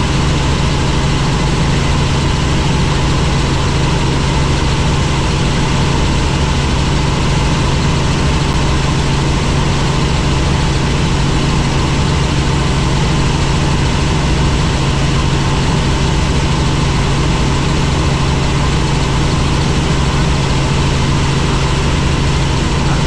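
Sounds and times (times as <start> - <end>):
helicopter engine and rotor: 0.0 - 23.0.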